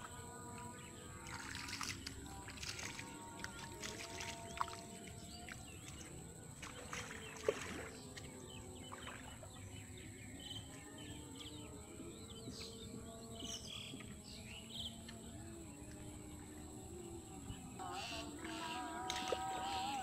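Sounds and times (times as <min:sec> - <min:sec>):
low outdoor background: 0:00.0 - 0:20.0.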